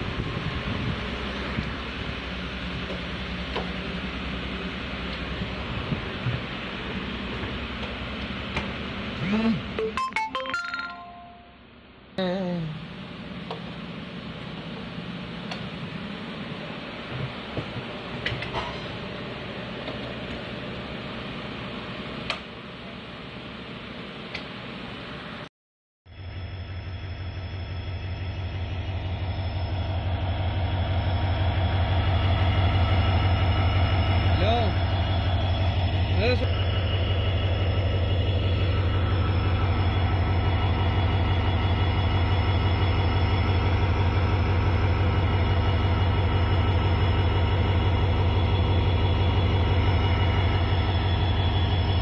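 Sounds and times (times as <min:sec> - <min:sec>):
diesel locomotive engine idling: 0:00.0 - 0:10.1, 0:10.9 - 0:25.5, 0:26.1 - 0:52.0.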